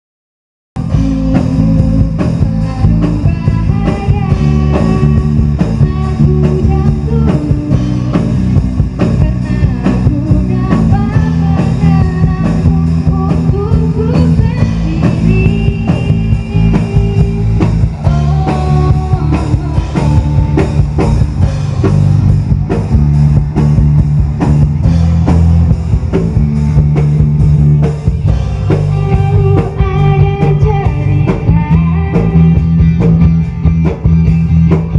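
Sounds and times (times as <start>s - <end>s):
rock band playing: 0.8s - 34.9s.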